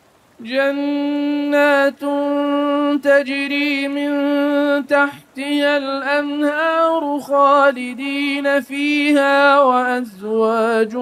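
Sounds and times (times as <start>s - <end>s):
man chanting melodically: 0.4s - 11.0s.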